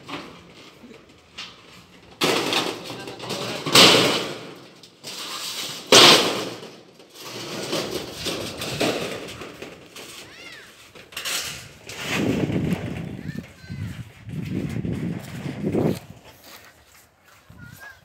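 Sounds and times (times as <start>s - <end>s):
metal roofing sheet scraping: 0.0s - 16.3s.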